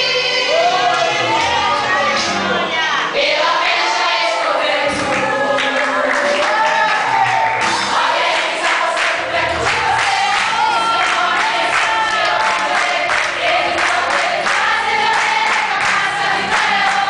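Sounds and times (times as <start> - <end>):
women's choir singing: 0.0 - 17.0.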